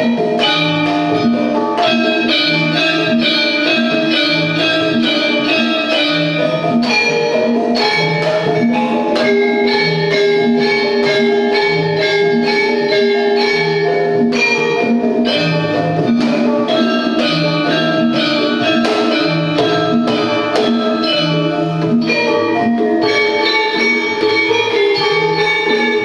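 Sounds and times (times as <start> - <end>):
hand drums beating: 0.0 - 26.0
kettle gongs and metallophones ringing: 0.0 - 26.0.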